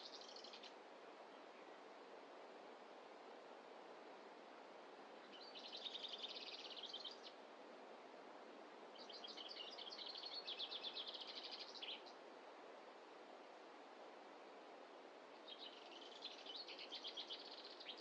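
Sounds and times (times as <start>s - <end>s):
faint steady background rush: 0.0s - 18.0s.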